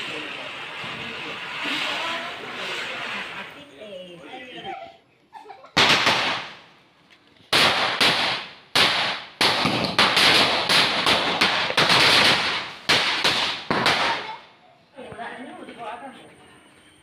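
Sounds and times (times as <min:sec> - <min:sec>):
firecrackers banging: 0:00.0 - 0:04.0, 0:05.7 - 0:16.0
firecracker crackling: 0:00.0 - 0:04.5, 0:05.6 - 0:16.0.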